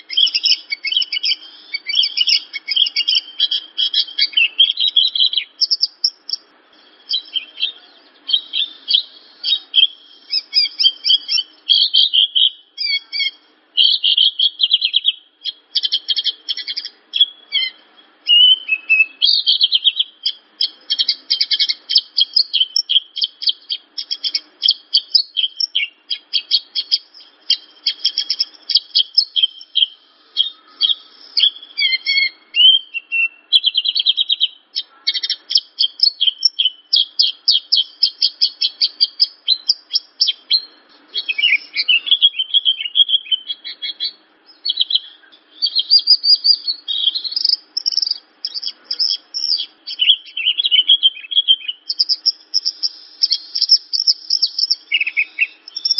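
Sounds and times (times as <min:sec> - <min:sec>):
bird singing high chirps and trills: 0:00.0 - 0:55.9.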